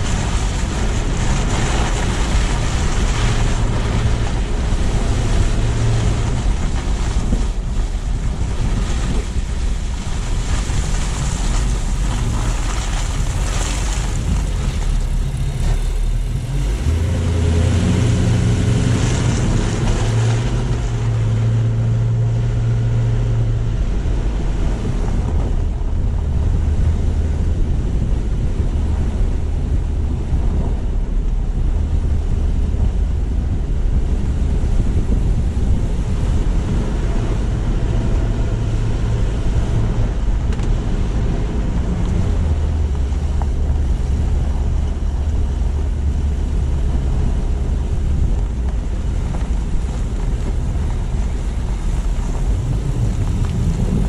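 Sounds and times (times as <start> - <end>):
car engine hum: 0.0 - 54.0
road and tyre noise: 0.0 - 54.0
wind on microphone: 0.0 - 54.0.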